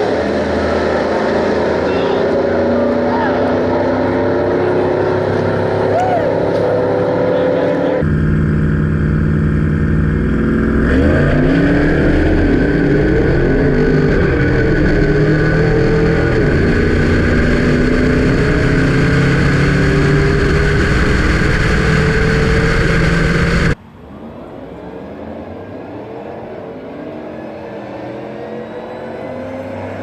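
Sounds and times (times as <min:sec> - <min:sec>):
vehicle engine running: 0:00.0 - 0:26.8
road noise: 0:00.0 - 0:30.0.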